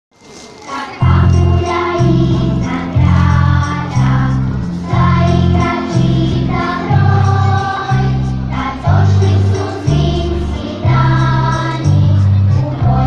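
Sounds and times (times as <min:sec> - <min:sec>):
choir singing: 0:00.7 - 0:13.0
pulsing heavy bass line: 0:01.0 - 0:13.0.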